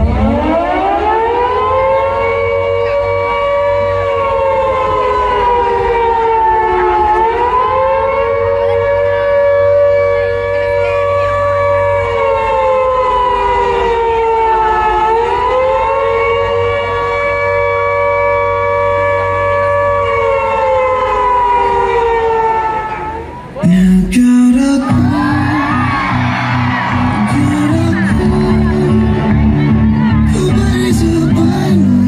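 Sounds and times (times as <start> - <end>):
air-raid siren wailing: 0.0 - 23.7, 24.8 - 32.0.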